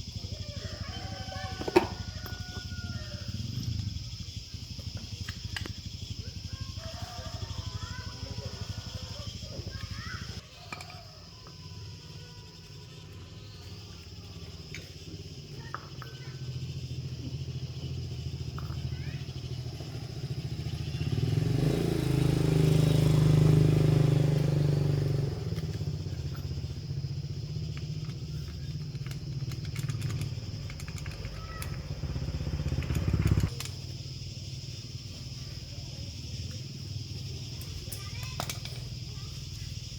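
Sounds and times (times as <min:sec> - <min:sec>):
scooter engine running and revving: 0:00.0 - 0:10.4, 0:11.7 - 0:39.9.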